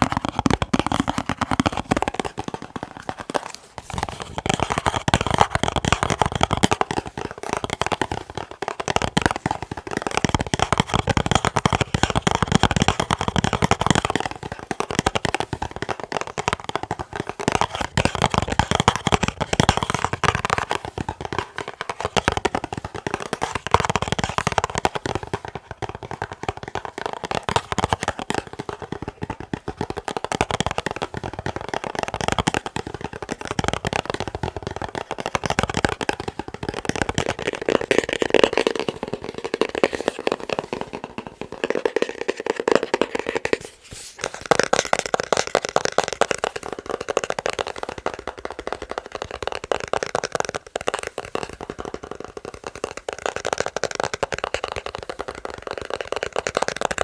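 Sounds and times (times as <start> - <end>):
fast tapping on a box: 0.0 - 57.0.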